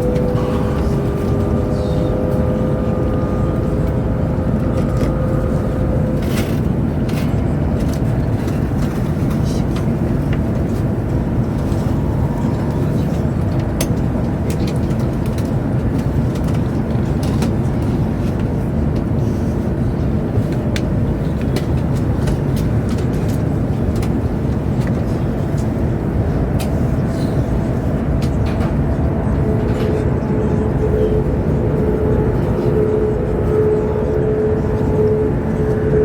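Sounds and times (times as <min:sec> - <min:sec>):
train rumbling inside passenger car: 0:00.0 - 0:36.0.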